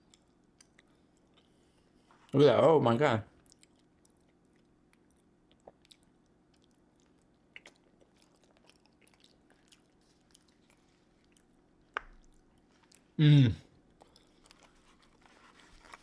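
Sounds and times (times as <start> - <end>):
faint chewing: 0.0 - 2.4, 3.3 - 16.0.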